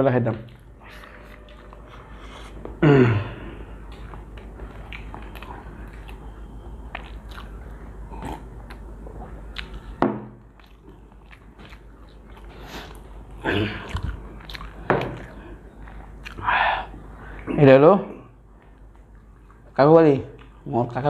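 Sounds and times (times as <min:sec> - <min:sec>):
people chewing food: 0:00.3 - 0:20.7.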